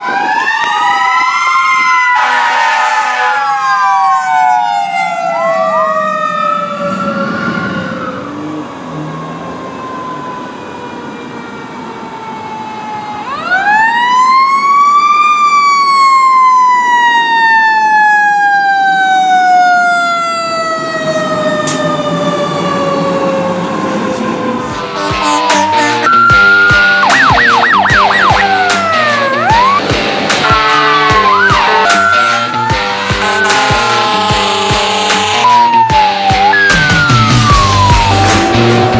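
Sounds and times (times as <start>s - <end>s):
fire engine sirens wailing: 0.0s - 38.9s.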